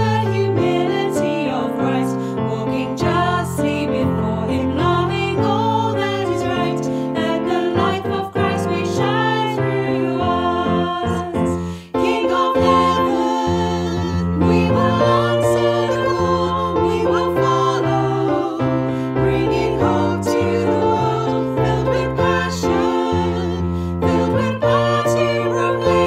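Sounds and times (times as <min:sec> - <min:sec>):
piano accompaniment: 0:00.0 - 0:26.0
women singing a hymn: 0:00.0 - 0:26.0.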